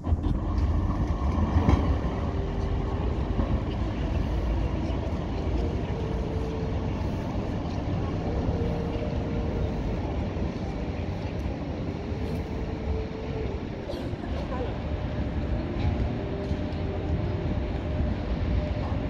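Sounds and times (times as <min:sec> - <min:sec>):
tram rumbling on tracks: 0:00.0 - 0:19.0.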